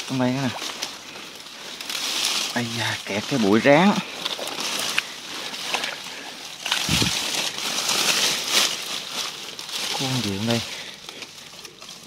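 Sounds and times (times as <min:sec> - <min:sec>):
plants rustling: 0:00.0 - 0:12.0
water sloshing: 0:00.0 - 0:12.0.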